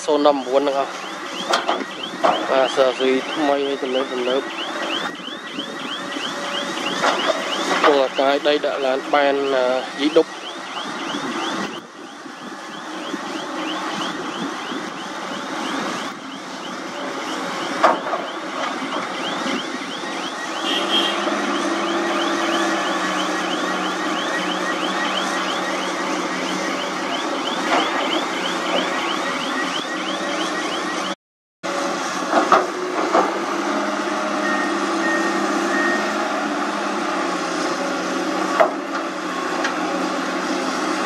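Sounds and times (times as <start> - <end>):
excavator diesel engine under load: 0.0 - 31.1, 31.7 - 41.0.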